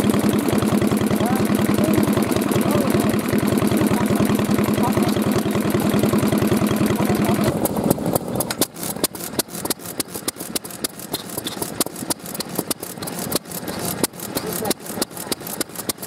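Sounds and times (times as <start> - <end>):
old stationary engines clattering: 0.0 - 16.0.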